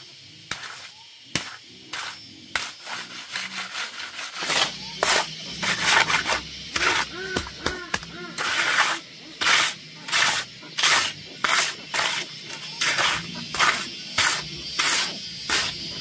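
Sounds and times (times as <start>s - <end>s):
scraping and knocking strokes: 0.0s - 16.0s.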